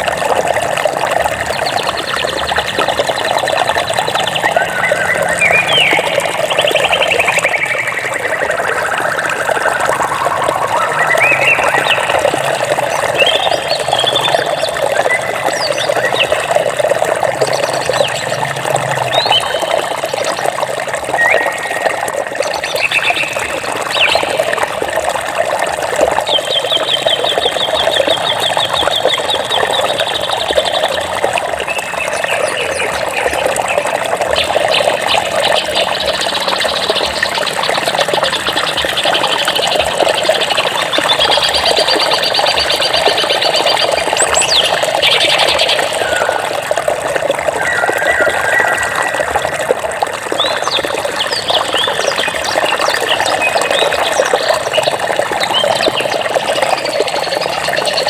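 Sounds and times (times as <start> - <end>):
flowing water: 0.0 - 58.0
birds singing: 0.4 - 24.9, 26.0 - 58.0.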